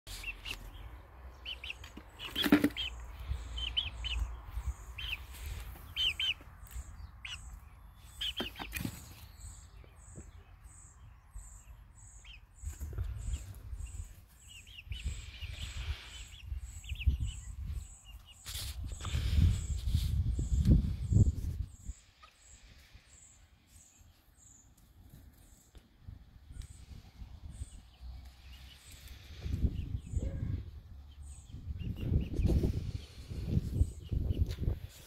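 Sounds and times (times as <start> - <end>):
chicks peeping: 0.1 - 35.0.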